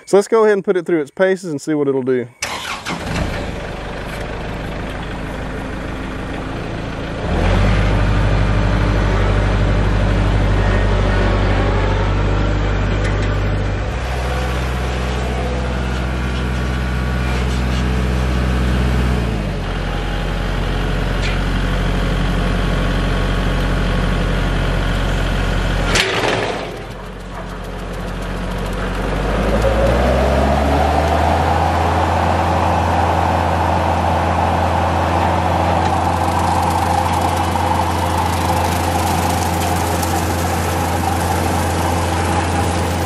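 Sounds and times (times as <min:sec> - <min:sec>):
tractor diesel engine running: 0:02.4 - 0:43.0.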